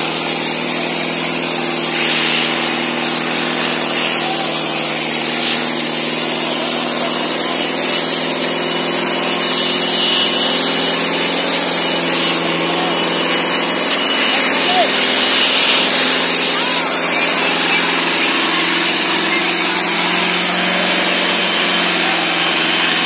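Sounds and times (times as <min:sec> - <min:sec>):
tractor diesel engine running: 0:00.0 - 0:23.0
tyres churning dry soil: 0:00.0 - 0:23.0.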